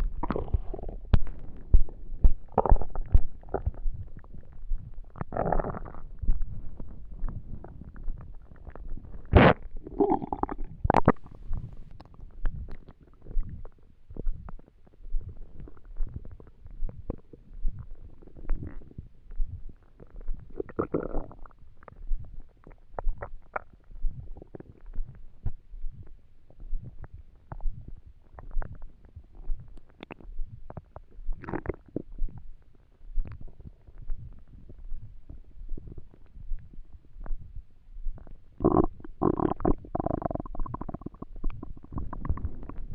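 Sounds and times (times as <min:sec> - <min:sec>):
stomach gurgling and rumbling: 0:00.0 - 0:42.9.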